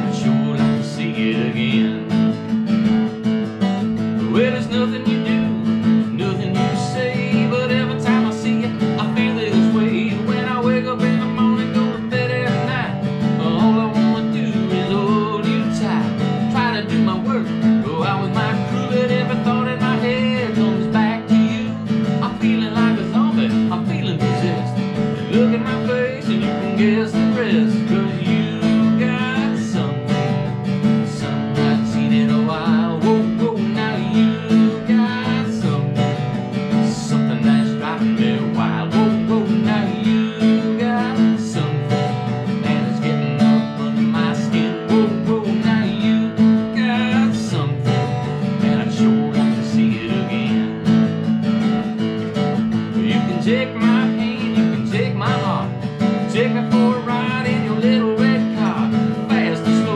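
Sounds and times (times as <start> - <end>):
acoustic guitar strumming: 0.0 - 59.9
man singing country song: 0.0 - 59.9.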